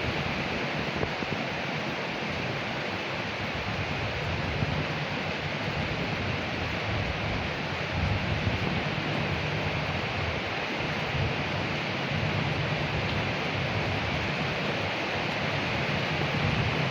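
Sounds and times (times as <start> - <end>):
rain falling on leaves: 0.0 - 16.9.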